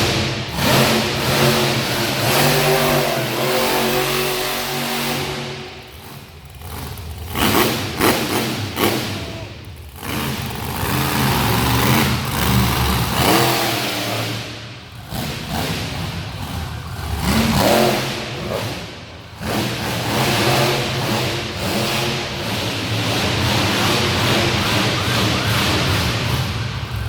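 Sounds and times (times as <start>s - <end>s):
monster truck engine revving: 0.0s - 27.0s.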